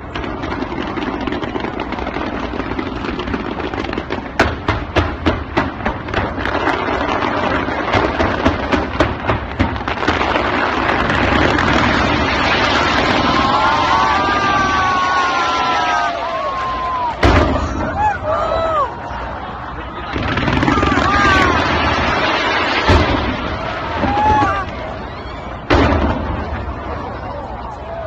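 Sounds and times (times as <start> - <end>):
fireworks sharp bangs: 0.0 - 28.0
steady noisy rumble: 3.5 - 28.0.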